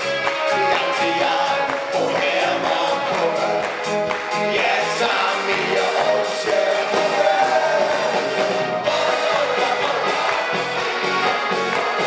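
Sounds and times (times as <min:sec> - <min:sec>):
live band music: 0:00.0 - 0:12.0
men singing together: 0:00.6 - 0:12.0.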